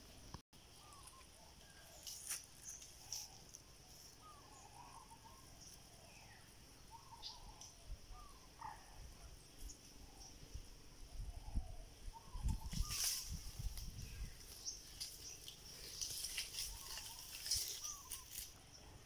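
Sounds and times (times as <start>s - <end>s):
insects humming: 0.0s - 19.0s
bird chirps: 0.6s - 19.0s.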